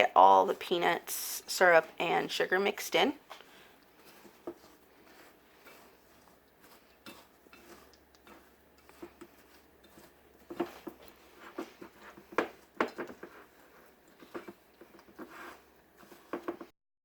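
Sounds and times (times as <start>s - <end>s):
spoon stirring sticky mixture: 0.0s - 16.7s.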